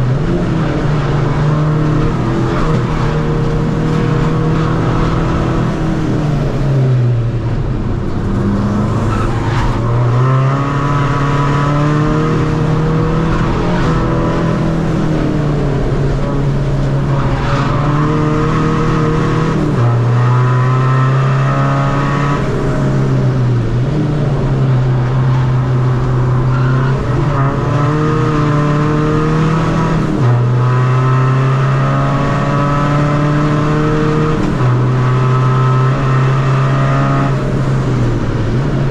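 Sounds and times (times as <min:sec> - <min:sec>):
diesel car engine revving: 0:00.0 - 0:38.9.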